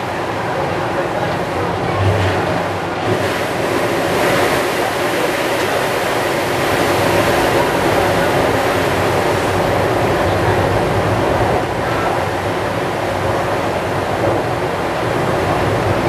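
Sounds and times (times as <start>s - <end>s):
subway train wheels on rails: 0.0s - 16.0s.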